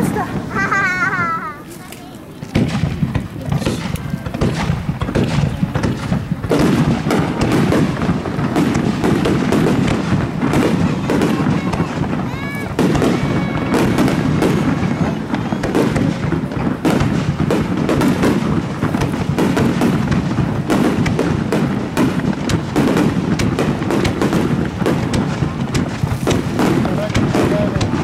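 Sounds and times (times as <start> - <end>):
firework shells bursting: 0.0 - 28.0.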